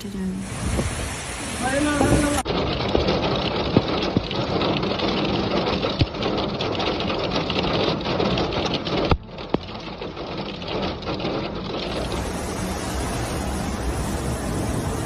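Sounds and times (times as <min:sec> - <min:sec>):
heavy rain pelting: 0:00.0 - 0:15.0
hailstones clicking: 0:01.6 - 0:15.0.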